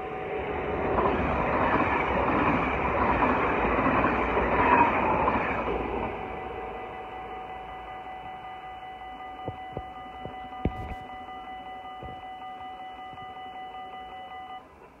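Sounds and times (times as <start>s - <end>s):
level crossing warning bell: 0.0s - 14.8s.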